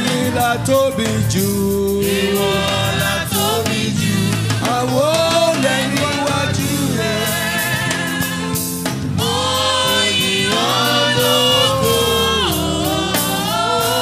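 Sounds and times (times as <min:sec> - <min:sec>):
band accompaniment: 0:00.0 - 0:14.0
congregation singing gospel: 0:00.0 - 0:14.0.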